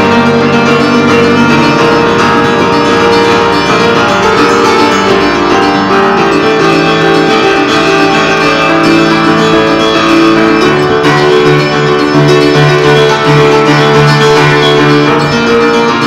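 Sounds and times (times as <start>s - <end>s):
upright piano chords: 0.0s - 16.0s.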